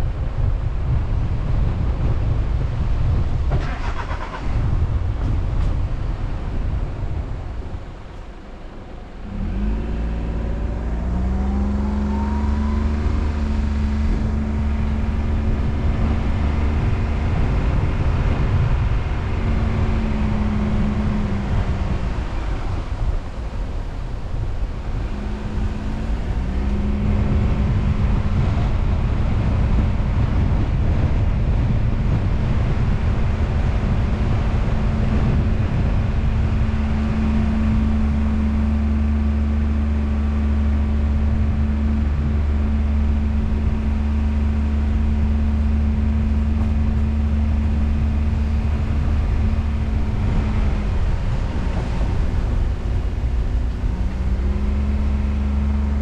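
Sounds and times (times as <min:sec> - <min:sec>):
car engine: 0:00.0 - 0:56.0
road noise: 0:00.0 - 0:56.0.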